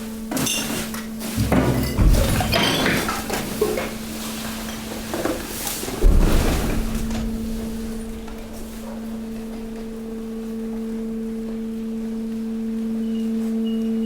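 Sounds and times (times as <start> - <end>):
hydraulic pump humming: 0.0 - 14.0
crackle of waste being crushed: 0.3 - 11.8.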